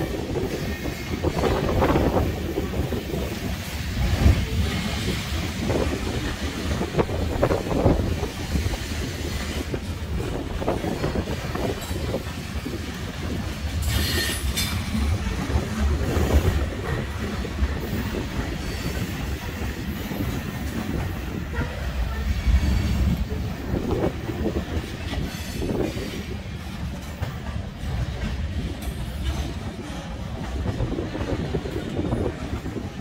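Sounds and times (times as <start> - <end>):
freight train rumble: 0.0 - 33.0
wheels clacking over rail joints: 0.0 - 33.0.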